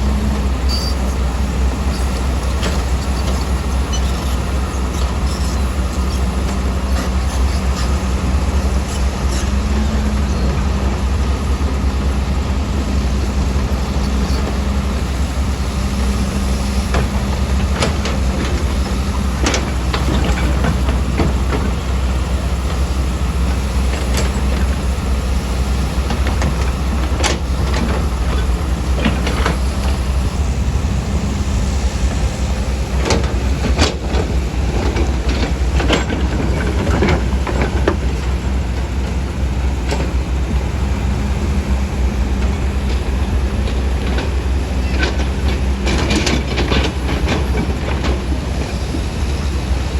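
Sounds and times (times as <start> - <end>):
heavy machine engine rumbling: 0.0 - 49.9.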